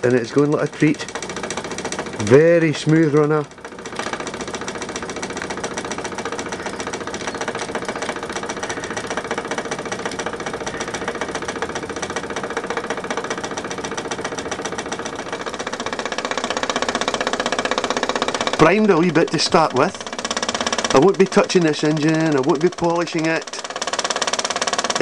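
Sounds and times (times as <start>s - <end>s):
toy steam engine puffing: 0.1s - 25.0s.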